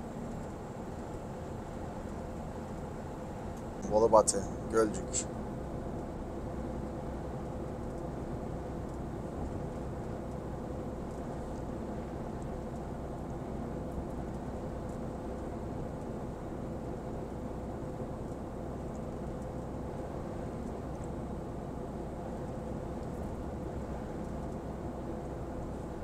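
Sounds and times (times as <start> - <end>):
truck engine and tyres droning: 0.0 - 26.0.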